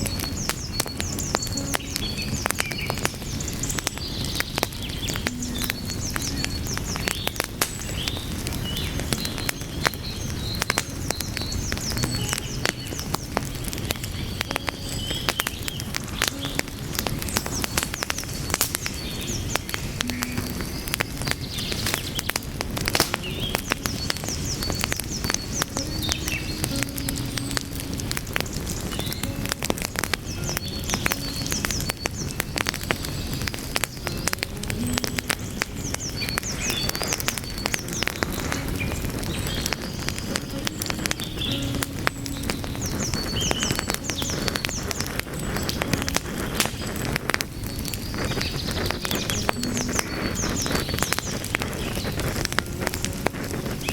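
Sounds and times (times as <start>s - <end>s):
low rumble of burning logs: 0.0s - 53.9s
sharp pops: 0.0s - 53.9s
wood fire crackling: 0.0s - 53.9s.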